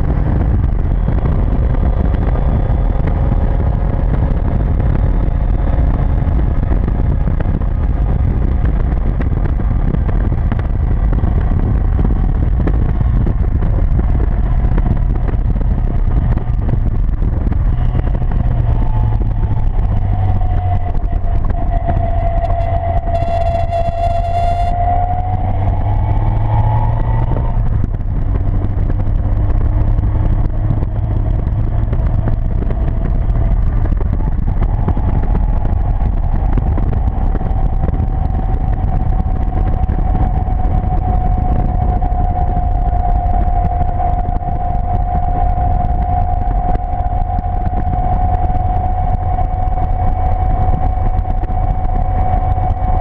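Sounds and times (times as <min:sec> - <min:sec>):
sports car engine running hard: 0:00.0 - 0:53.0
wind rush: 0:00.0 - 0:53.0.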